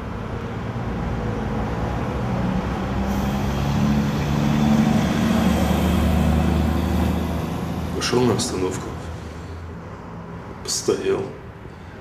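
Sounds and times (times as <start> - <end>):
bus engine passing: 0.0 - 11.9.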